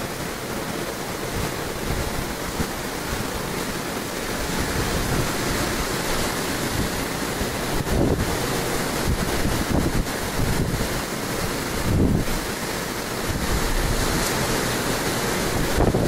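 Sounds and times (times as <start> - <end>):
ocean surf breaking: 0.0 - 16.0
wind gusts on microphone: 0.0 - 16.0.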